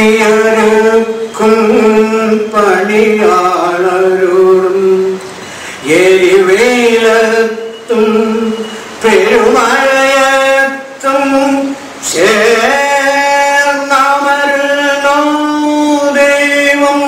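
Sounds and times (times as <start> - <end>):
man singing chant-like melody: 0.0 - 17.0.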